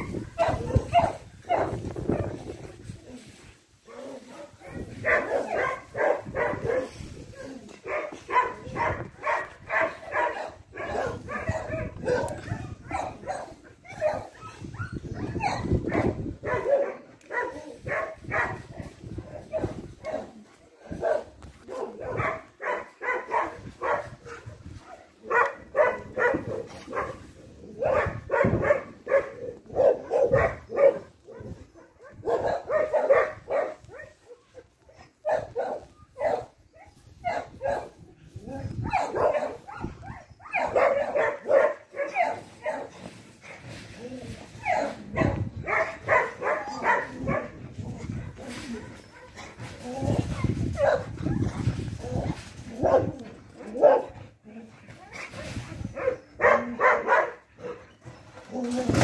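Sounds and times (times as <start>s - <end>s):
dog barking: 0.0s - 2.4s, 3.9s - 6.9s, 7.8s - 38.0s, 38.8s - 43.0s, 44.6s - 49.4s, 50.4s - 51.5s, 52.7s - 54.2s, 55.9s - 57.8s.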